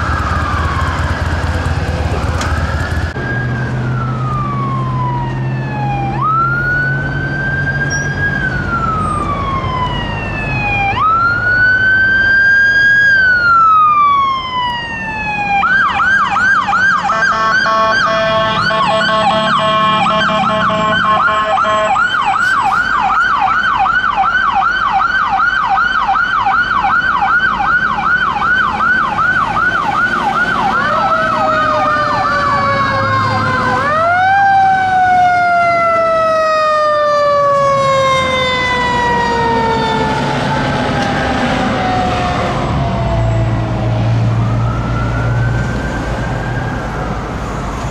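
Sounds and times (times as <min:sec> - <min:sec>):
fire truck sirens wailing and yelping: 0:00.0 - 0:47.9.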